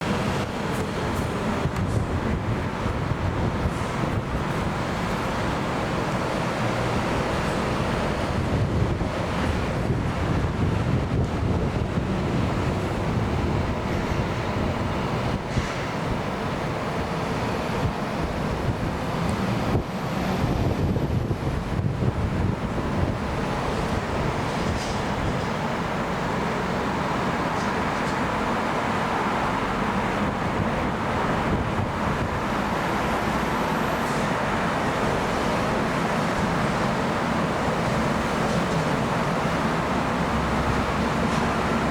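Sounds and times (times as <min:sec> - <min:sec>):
jet engines roaring: 0:00.0 - 0:41.9
wind buffeting microphone: 0:00.0 - 0:41.9.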